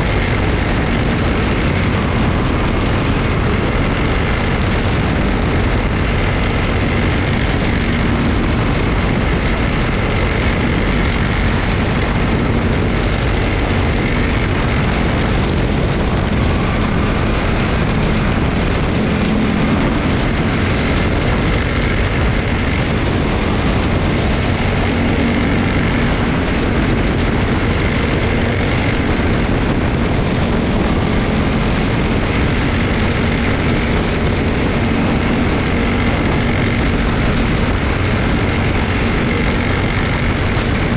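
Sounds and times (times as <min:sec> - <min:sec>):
race car engines droning: 0:00.0 - 0:40.9.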